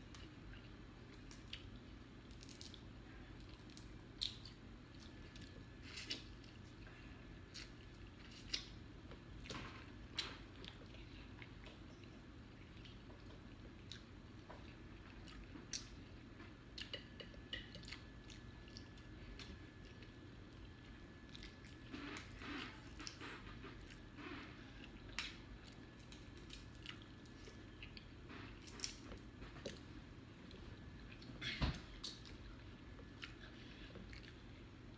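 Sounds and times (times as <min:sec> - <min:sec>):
people chewing: 0:00.1 - 0:34.7.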